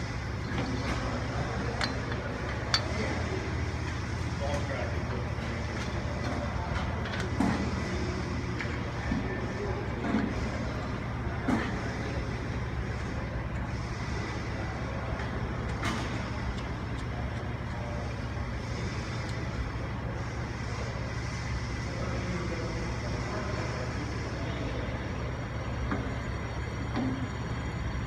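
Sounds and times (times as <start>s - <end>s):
low machine drone: 0.0s - 28.0s.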